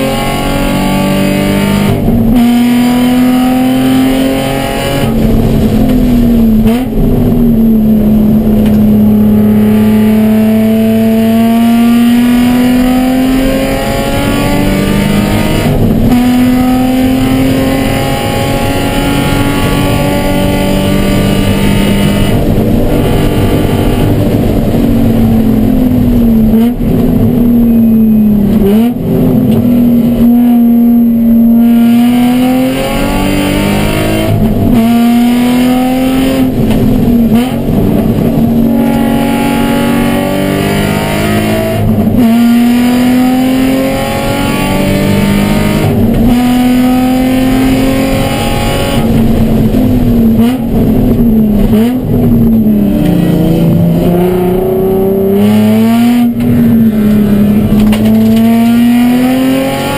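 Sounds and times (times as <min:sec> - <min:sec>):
car engine revving through gears: 0:00.0 - 0:59.9.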